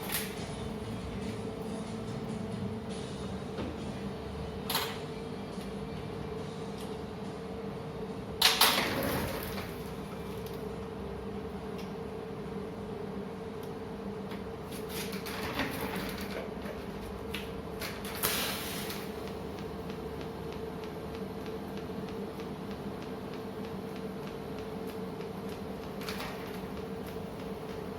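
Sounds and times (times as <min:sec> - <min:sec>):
motor drive humming and ticking: 0:00.0 - 0:08.5, 0:09.6 - 0:14.8, 0:19.0 - 0:27.9.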